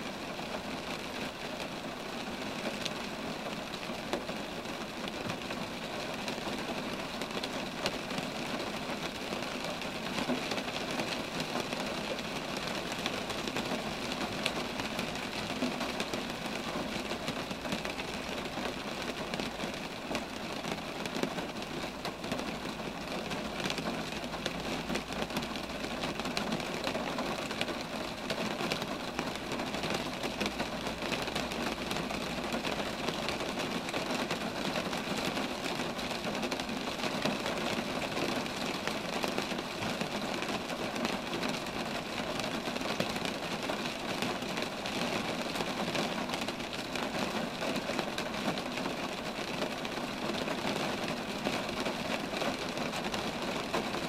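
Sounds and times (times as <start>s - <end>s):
rain on trees: 0.0s - 54.0s.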